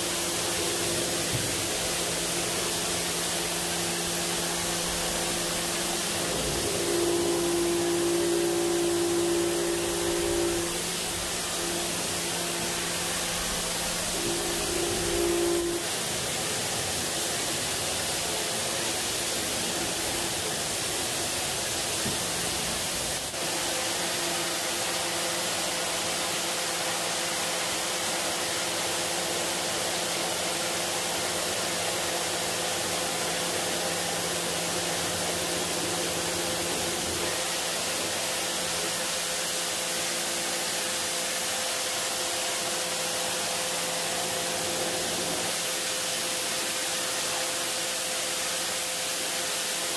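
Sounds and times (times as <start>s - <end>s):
pressure washer spraying water: 0.0s - 49.9s.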